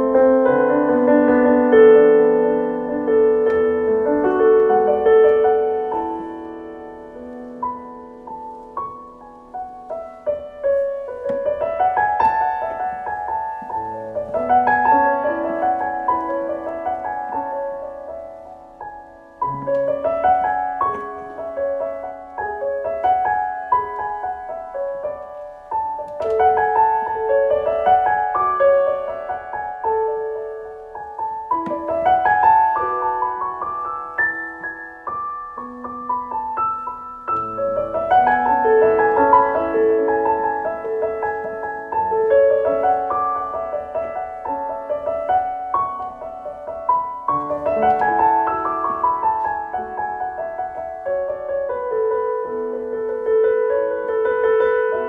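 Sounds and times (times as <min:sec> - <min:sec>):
gentle piano piece: 0:00.0 - 0:55.0.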